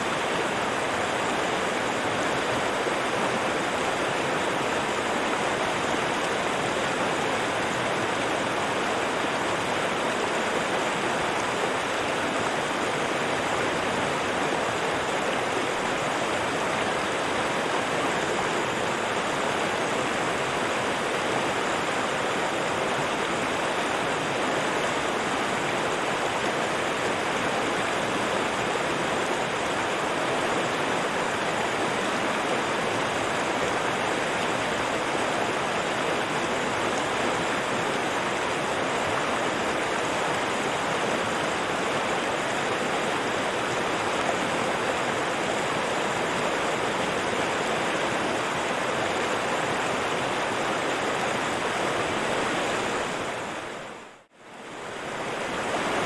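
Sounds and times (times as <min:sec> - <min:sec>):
river water rushing over rocks: 0:00.0 - 0:56.0.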